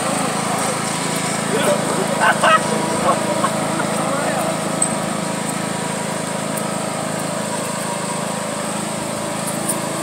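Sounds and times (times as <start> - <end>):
riding lawn mower engine running: 0.0 - 10.0.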